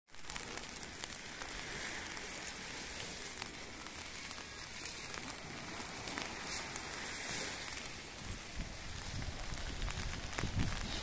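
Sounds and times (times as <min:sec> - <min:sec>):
raindrop ticks: 0:00.1 - 0:11.0
steady rain hiss: 0:00.1 - 0:11.0.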